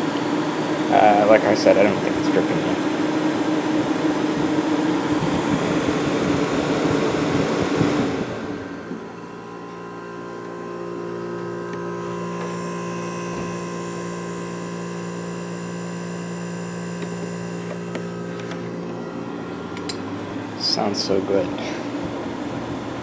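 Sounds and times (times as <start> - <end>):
window air conditioner running: 0.0 - 23.0.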